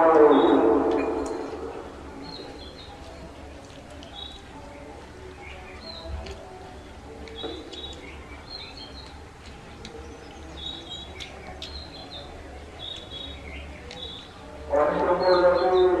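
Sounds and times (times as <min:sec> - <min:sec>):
sharp chewing clicks: 0:00.1 - 0:04.8, 0:05.4 - 0:16.0
small birds chirping: 0:00.2 - 0:16.0.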